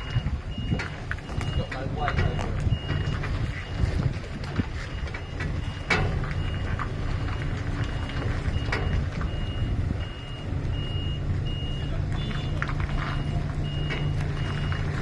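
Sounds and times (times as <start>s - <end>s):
diesel engine running: 0.0s - 15.0s
truck reversing alarm beeping: 0.0s - 15.0s.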